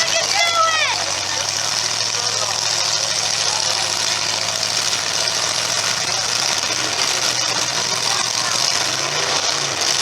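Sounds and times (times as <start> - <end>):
car engines running: 0.0 - 10.0
hissy arena noise: 0.0 - 10.0.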